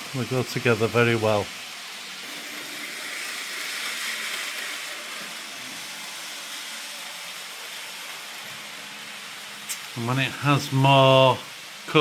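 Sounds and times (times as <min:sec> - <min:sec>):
model train wheels on rail: 0:00.0 - 0:12.0.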